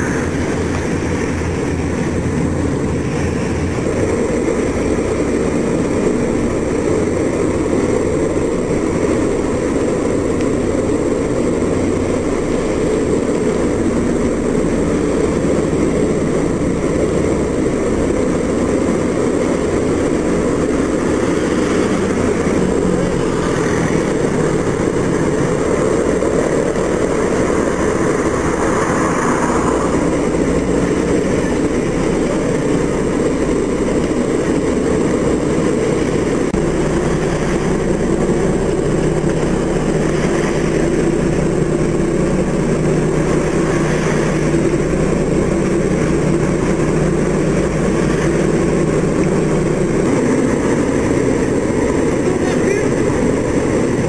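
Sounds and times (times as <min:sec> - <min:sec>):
boat diesel engines running: 0:00.0 - 0:54.0.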